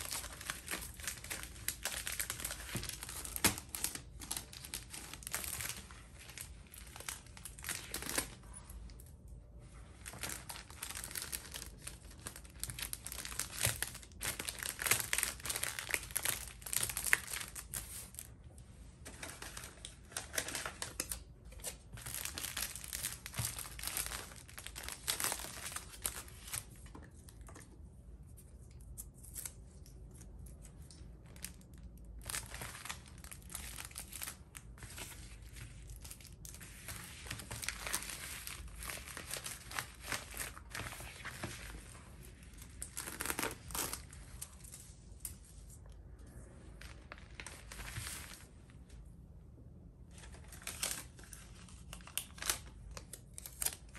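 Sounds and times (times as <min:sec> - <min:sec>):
plastic sleeves crinkling: 0:00.0 - 0:49.1, 0:50.0 - 0:53.9.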